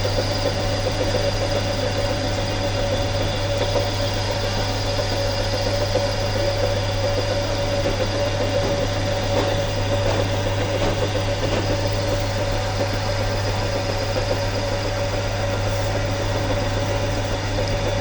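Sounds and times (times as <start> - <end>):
workshop machine humming and whining: 0.0 - 18.0.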